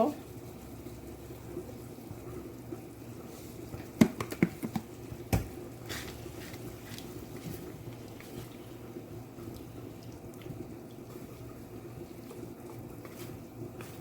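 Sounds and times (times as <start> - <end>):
pot simmering on stove: 0.0 - 14.0.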